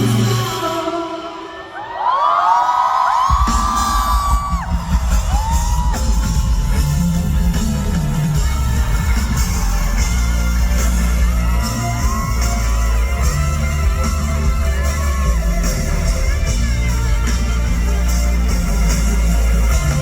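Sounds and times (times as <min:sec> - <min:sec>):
live rock band music: 0:00.0 - 0:01.8, 0:03.2 - 0:20.0
audience screaming: 0:01.4 - 0:20.0.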